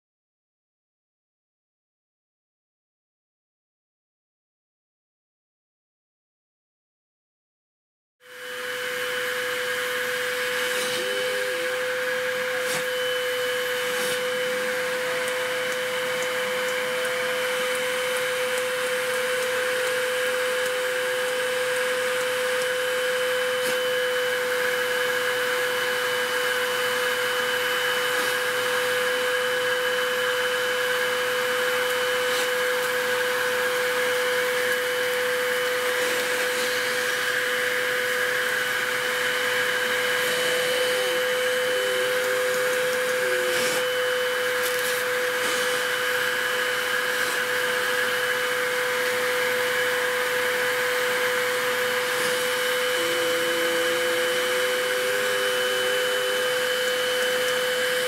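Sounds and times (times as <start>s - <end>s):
vacuum cleaner motor whine: 8.2s - 58.0s.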